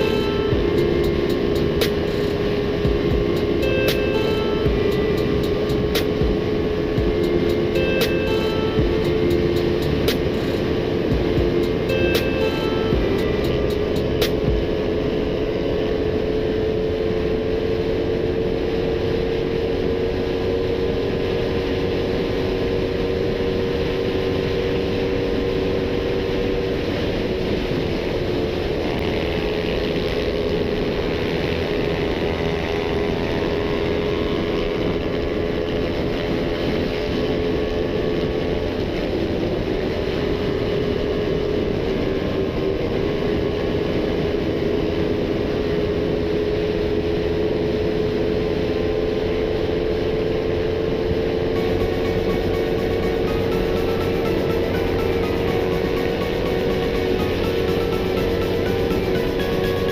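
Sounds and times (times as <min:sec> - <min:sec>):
motorcycle engine at speed: 0:00.0 - 0:59.9
road and wind rush: 0:00.0 - 0:59.9.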